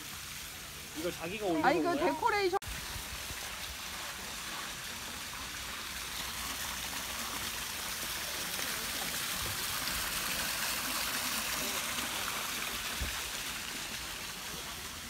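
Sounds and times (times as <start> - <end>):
waterfall splashing over rocks: 0.0 - 15.0.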